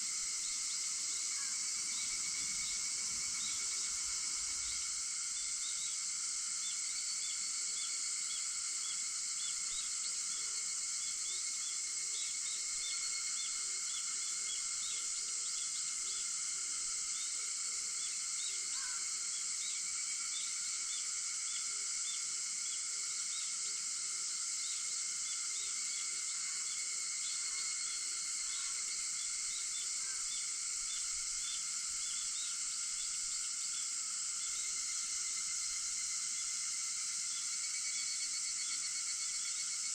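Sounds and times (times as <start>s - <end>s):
brief insect call: 0.0s - 39.9s
cicadas chorus: 0.0s - 39.9s.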